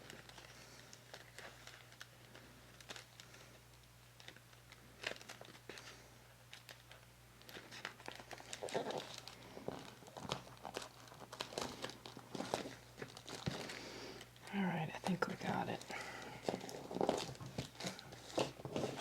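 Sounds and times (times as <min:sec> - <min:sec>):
paper and card rustling: 0:00.0 - 0:14.3, 0:15.0 - 0:19.0.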